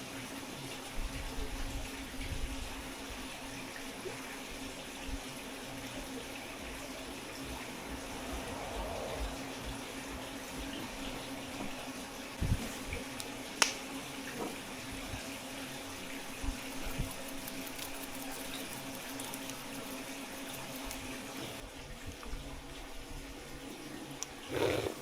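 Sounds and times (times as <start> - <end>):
water running from tap: 0.0 - 21.6, 22.4 - 25.0.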